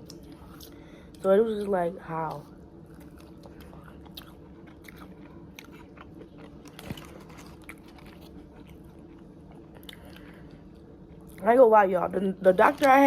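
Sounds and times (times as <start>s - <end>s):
chewing and crunching food: 0.0s - 11.5s.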